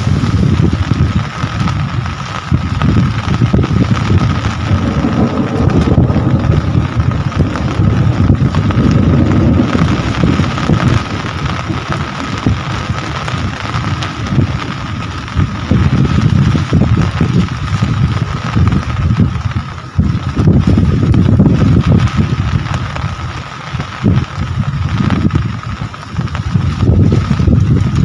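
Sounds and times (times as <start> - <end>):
steady rain falling: 0.0 - 28.0
wind buffeting microphone: 0.0 - 28.0.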